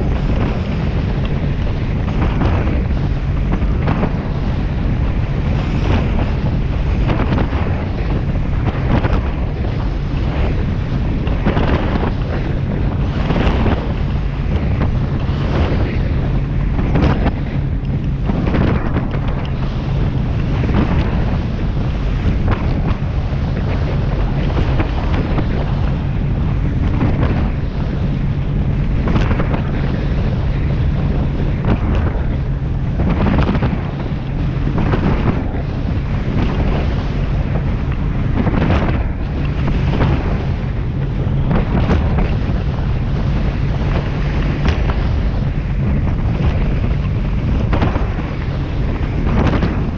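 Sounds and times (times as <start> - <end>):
boat engine drone: 0.0 - 49.9
hull slamming through waves: 0.0 - 49.9
wind buffeting microphone: 0.0 - 49.9.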